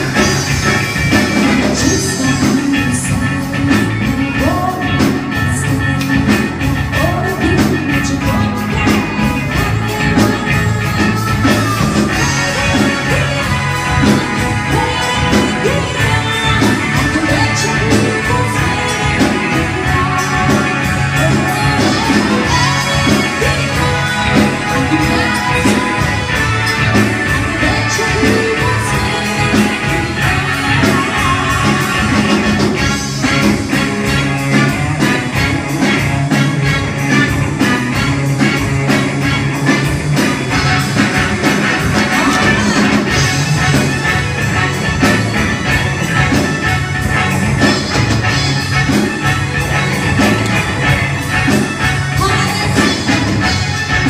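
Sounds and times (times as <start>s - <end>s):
loud amplified rock music: 0.0s - 54.0s.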